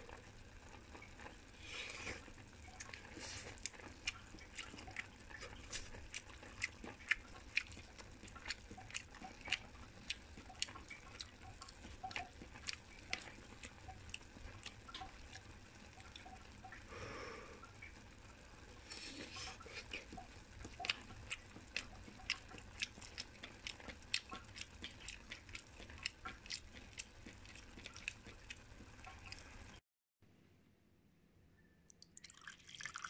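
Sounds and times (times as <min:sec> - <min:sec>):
wet chewing and smacking: 0:00.1 - 0:16.8, 0:18.9 - 0:29.8.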